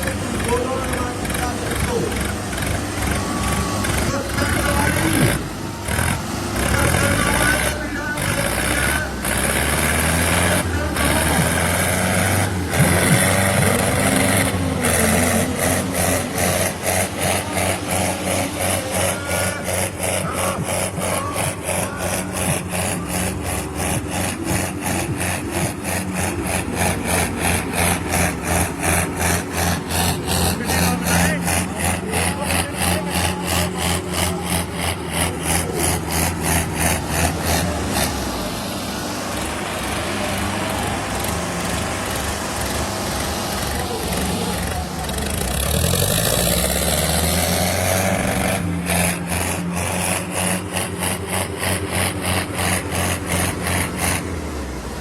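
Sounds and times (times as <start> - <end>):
fast regular engine pulsing: 0.0 - 55.0
tractor diesel engines under load: 0.0 - 55.0.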